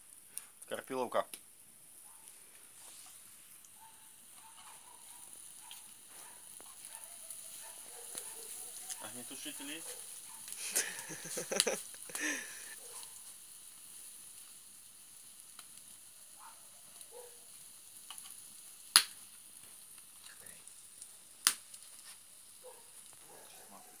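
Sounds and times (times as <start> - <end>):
burning wood popping: 0.0 - 24.0
food sizzling over fire: 0.0 - 24.0.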